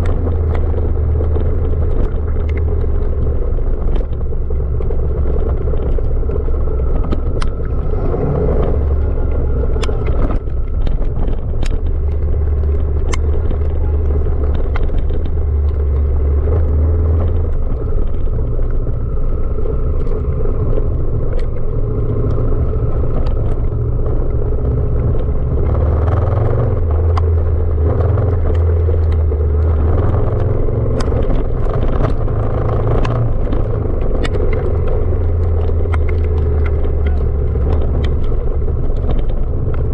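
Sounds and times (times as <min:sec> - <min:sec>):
motorcycle engine rumbling: 0:00.0 - 0:39.9
sharp clicks and knocks: 0:00.0 - 0:39.9
wind on the microphone: 0:00.0 - 0:39.9.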